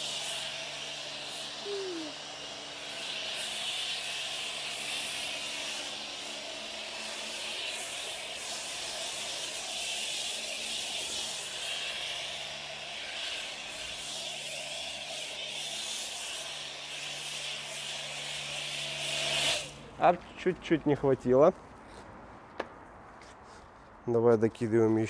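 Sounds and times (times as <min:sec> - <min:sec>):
foam spray hissing: 0:00.0 - 0:21.0.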